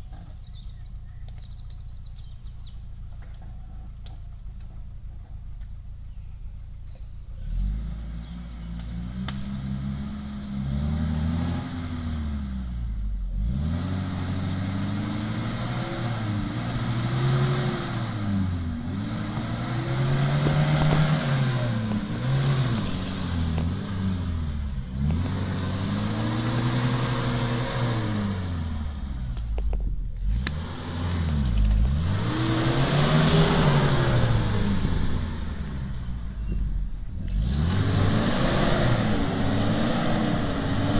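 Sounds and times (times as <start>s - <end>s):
car engine revving under load: 0.0s - 40.9s.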